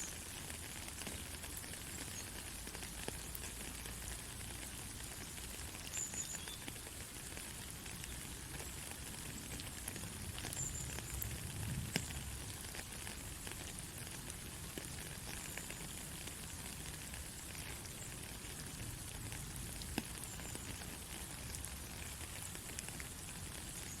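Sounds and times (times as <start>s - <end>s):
steady rain hiss: 0.0s - 24.0s
water drips: 0.0s - 24.0s.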